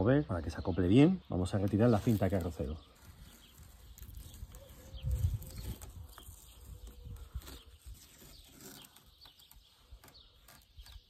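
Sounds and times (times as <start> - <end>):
small birds chirping: 0.0 - 11.0
tape peeling and rustling: 1.4 - 11.0.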